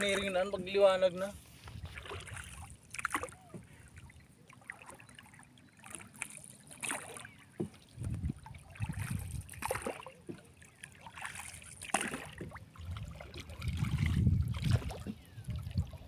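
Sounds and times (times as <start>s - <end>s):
water sloshing around a boat: 0.0s - 16.0s.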